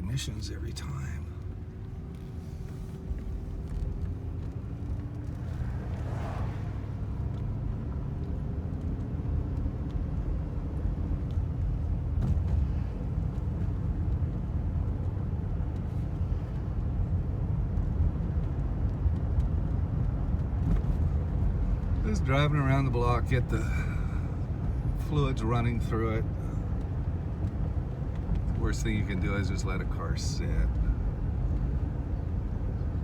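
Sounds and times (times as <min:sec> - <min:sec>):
car engine rumbling: 0:00.0 - 0:33.0
road noise: 0:00.0 - 0:33.0.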